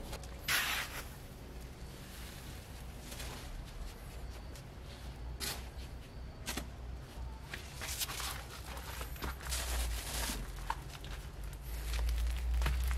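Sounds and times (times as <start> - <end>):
rice husk rustling and crunching: 0.0 - 12.9.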